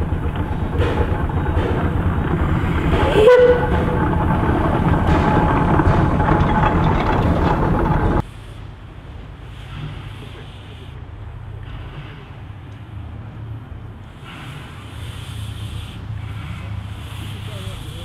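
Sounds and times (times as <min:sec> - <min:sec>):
steam train rumbling and clattering: 0:00.0 - 0:18.0.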